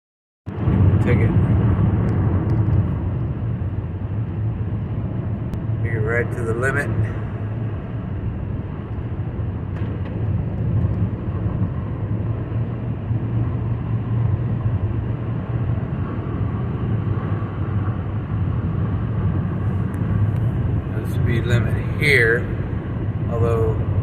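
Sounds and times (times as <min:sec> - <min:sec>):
constant low hum: 0:00.5 - 0:24.0
road and tyre noise: 0:00.5 - 0:24.0.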